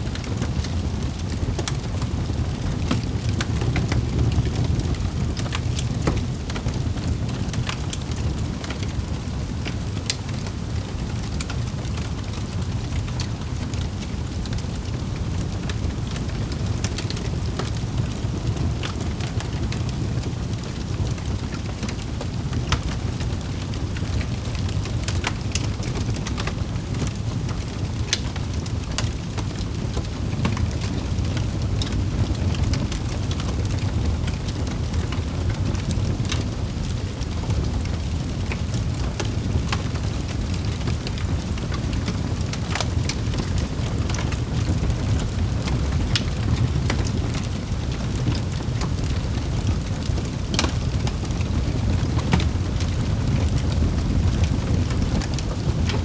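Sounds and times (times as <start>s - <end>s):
fire crackling and popping: 0.0s - 56.0s
wood fire roaring: 0.0s - 56.0s.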